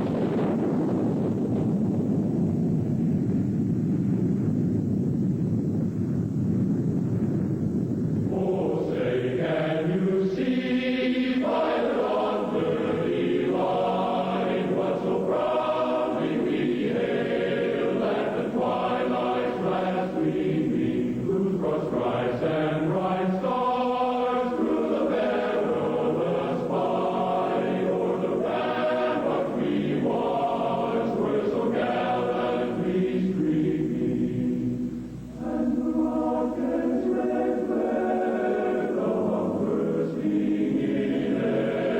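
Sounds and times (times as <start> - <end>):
choir singing held chords: 8.2 - 41.9.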